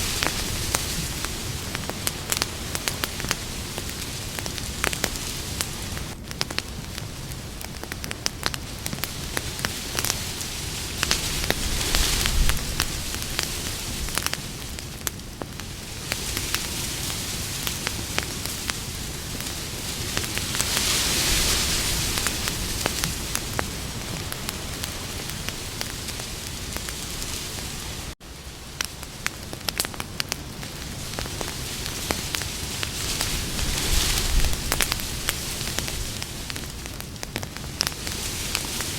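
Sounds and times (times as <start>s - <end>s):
campfire hissing and crackling: 0.0s - 38.9s.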